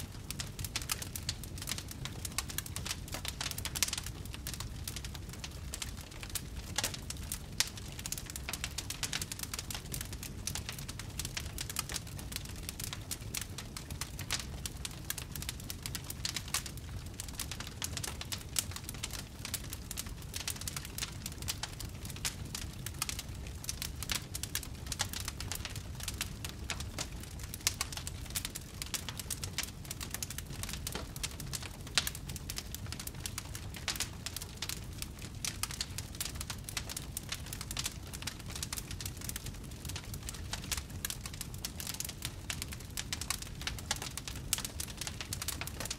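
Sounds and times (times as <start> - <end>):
campfire crackling and popping: 0.0 - 45.9
low rumble of flame: 0.0 - 45.9.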